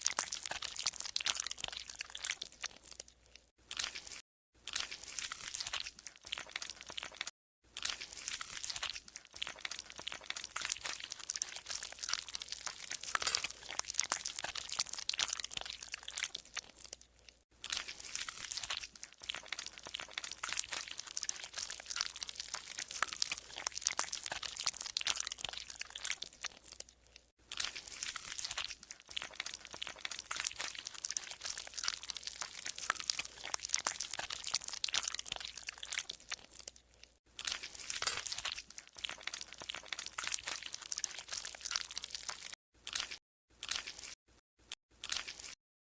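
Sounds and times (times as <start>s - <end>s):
slime squelching and crackling: 0.0s - 44.2s.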